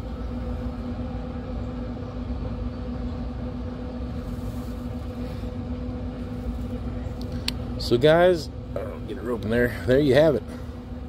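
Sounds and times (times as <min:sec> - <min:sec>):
smoker fan humming: 0:00.0 - 0:11.0.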